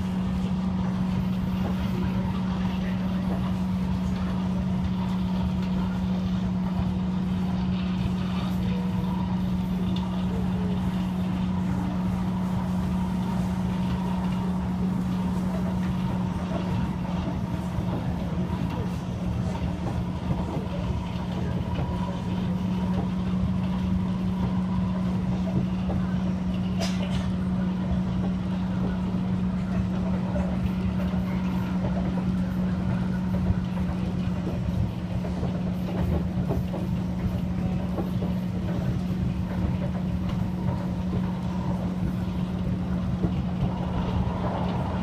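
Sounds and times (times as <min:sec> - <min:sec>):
steady low hum: 0:00.0 - 0:45.0
train rumble inside carriage: 0:00.0 - 0:45.0.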